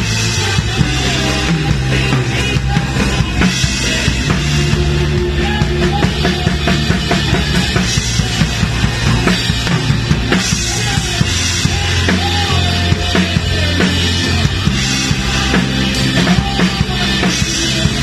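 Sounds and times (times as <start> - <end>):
drum kit beat: 0.0 - 18.0
live rock band playing: 0.0 - 18.0
low bass notes: 0.0 - 18.0.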